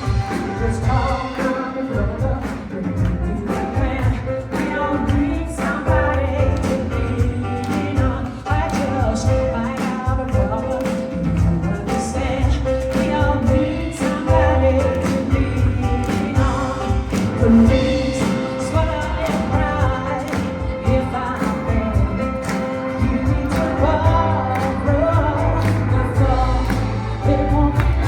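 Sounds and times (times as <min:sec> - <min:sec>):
band with bass and drums: 0:00.0 - 0:28.0
woman singing: 0:00.0 - 0:28.0.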